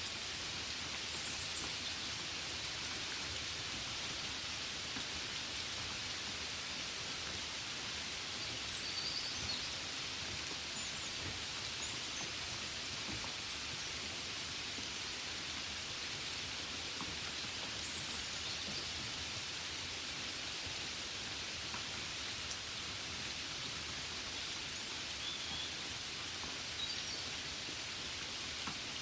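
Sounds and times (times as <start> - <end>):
rain on a window: 0.0 - 29.0.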